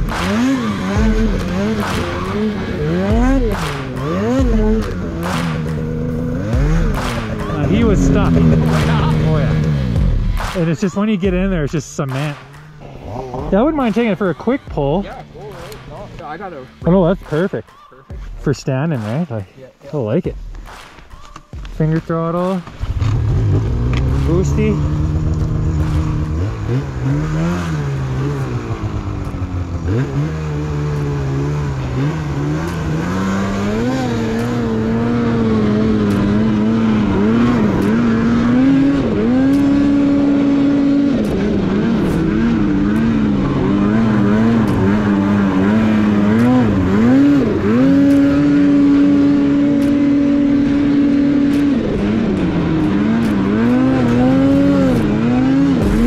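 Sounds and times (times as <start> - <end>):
snowmobile engine revving: 0.0 - 17.9, 21.8 - 56.0.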